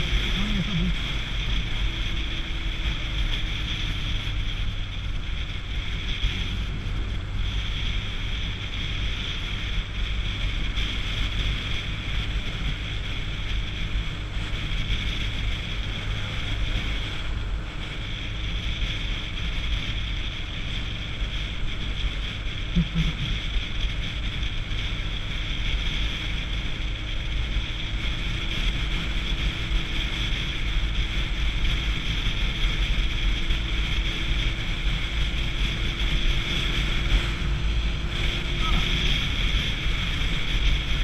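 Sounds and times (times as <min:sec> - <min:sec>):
motorcycle engine running: 0:00.0 - 0:41.0
wind rush over microphone: 0:00.0 - 0:41.0.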